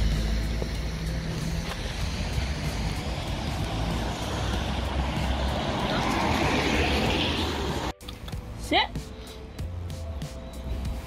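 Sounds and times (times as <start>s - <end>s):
traffic on a wet street: 0.0s - 11.0s.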